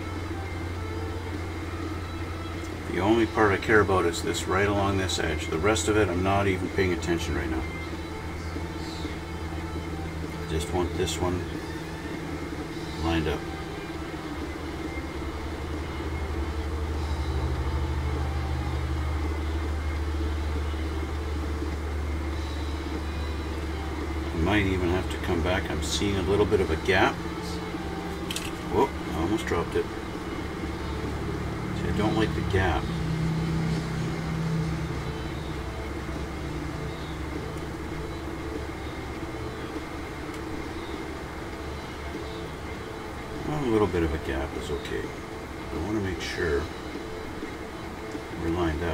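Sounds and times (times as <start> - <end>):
higher hum tone: 0.0 - 48.9
low machine hum: 0.0 - 48.9.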